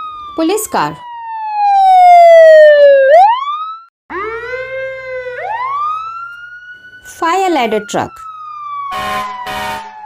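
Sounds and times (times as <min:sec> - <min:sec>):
police siren wailing: 0:00.0 - 0:10.0.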